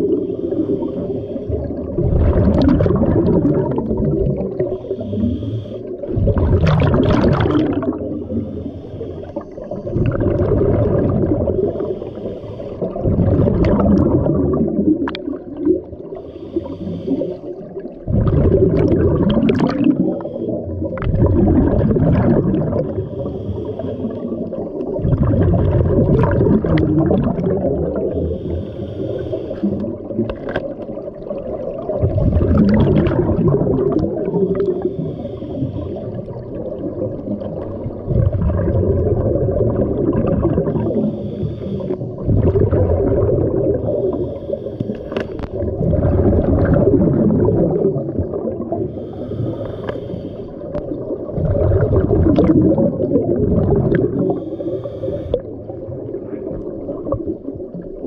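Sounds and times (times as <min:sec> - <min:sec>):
bubbles rumbling underwater: 0:00.0 - 0:49.9, 0:50.5 - 0:58.0.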